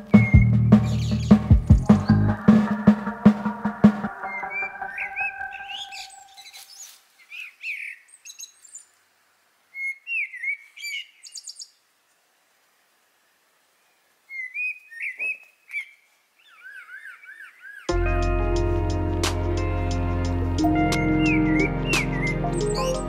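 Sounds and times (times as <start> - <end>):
songbirds chirping: 0.0 - 18.0, 19.1 - 23.0.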